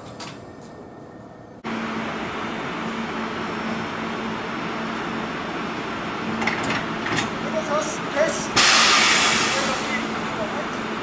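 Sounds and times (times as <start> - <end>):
whirring hum of train equipment: 0.0 - 11.0.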